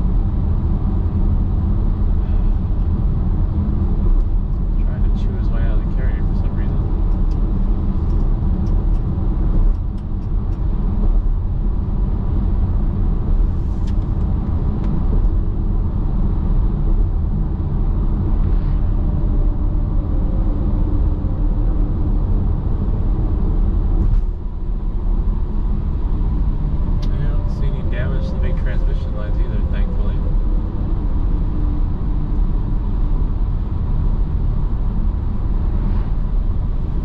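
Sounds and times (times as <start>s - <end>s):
road and engine rumble in car: 0.0s - 37.0s.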